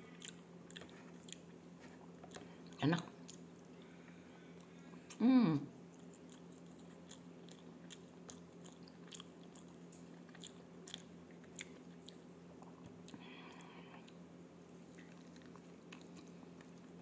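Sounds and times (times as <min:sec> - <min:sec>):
person chewing: 0:00.0 - 0:05.2, 0:05.8 - 0:17.0
faint steady hum: 0:00.0 - 0:17.0.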